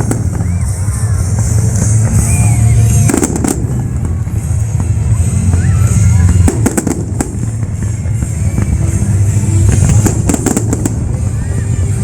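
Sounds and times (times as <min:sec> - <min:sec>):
continuous low rumble: 0:00.0 - 0:12.0
fireworks bangs: 0:00.0 - 0:12.0.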